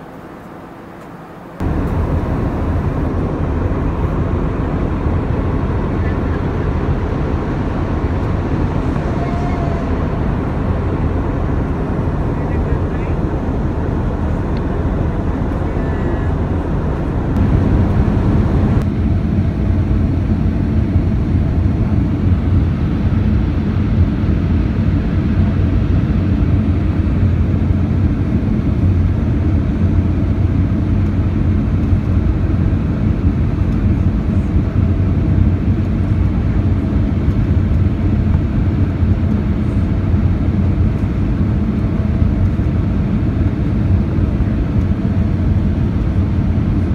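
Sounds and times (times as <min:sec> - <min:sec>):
airplane cabin drone: 0:00.0 - 0:46.9.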